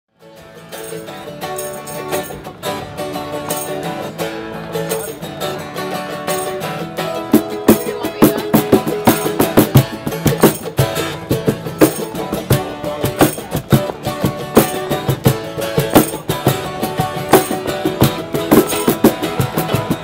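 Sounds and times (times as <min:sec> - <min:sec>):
acoustic guitar and mandolin: 0:00.1 - 0:20.0
sharp rhythmic strikes: 0:00.6 - 0:20.0.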